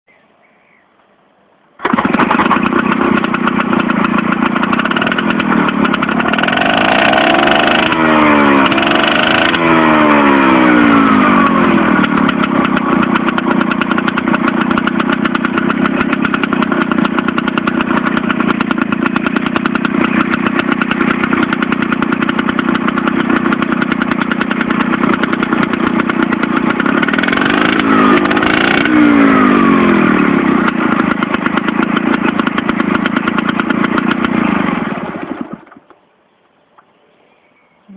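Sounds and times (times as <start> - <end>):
outboard boat motor running: 1.8 - 9.6, 10.4 - 35.9.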